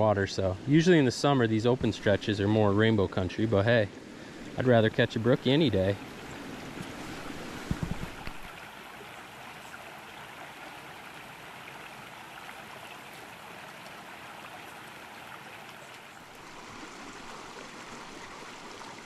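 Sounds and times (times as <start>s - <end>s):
brook babbling over stones: 0.0s - 19.0s.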